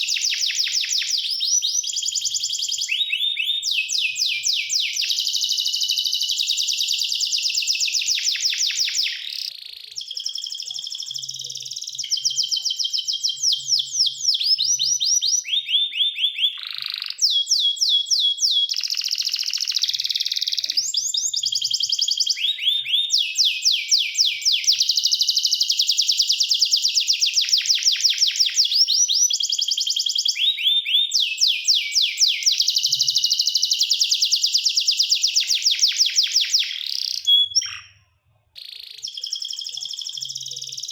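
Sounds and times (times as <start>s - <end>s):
canary singing rapid trills: 0.0s - 40.9s.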